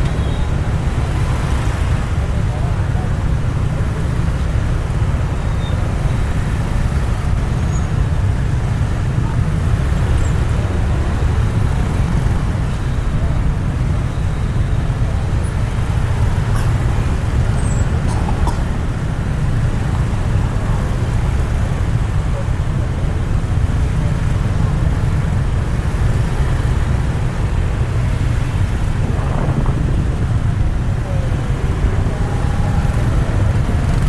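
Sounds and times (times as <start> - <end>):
traffic engines rumbling: 0.0 - 34.0.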